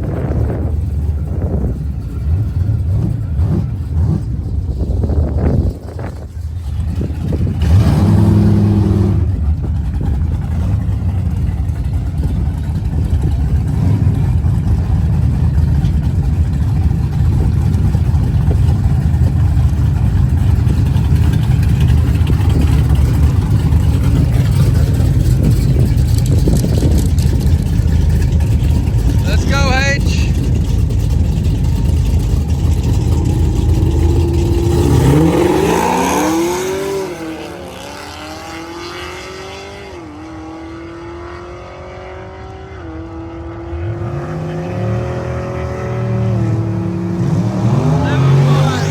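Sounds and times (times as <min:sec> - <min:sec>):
car engine running: 0:00.0 - 0:39.2, 0:43.6 - 0:48.9.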